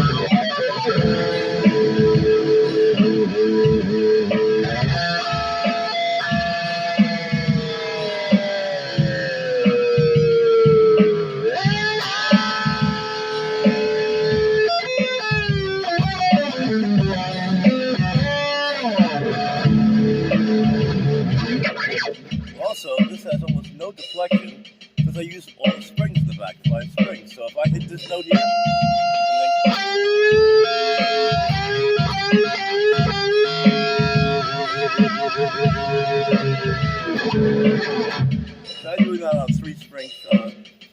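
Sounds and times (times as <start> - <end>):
electric guitar bending notes: 0.0 - 22.6, 27.7 - 38.8.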